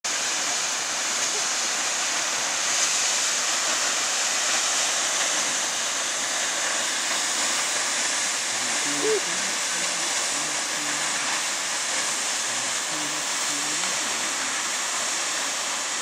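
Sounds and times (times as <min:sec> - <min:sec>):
waterfall rushing: 0:00.1 - 0:16.0.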